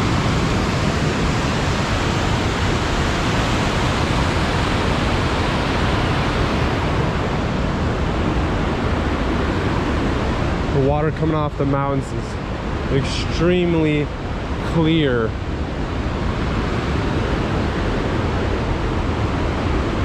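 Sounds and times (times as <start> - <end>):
creek rushing over rapids: 0.0 - 20.0.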